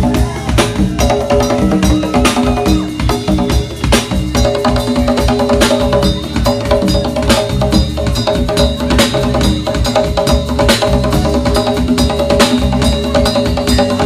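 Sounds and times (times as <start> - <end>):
live latin rock band: 0.0 - 14.0
wood-block-like percussion: 0.0 - 14.0.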